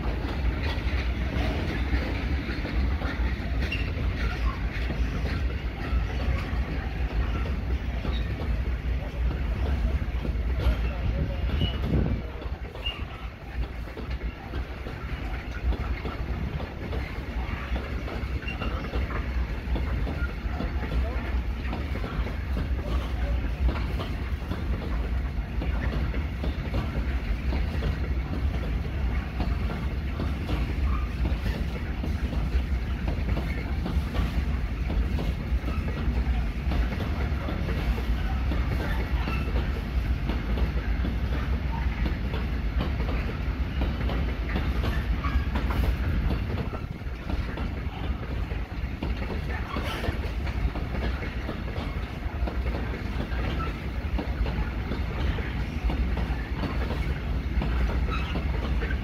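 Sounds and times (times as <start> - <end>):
freight train wheels rumbling: 0.0 - 59.0
wheels clattering over rail joints: 0.0 - 59.0.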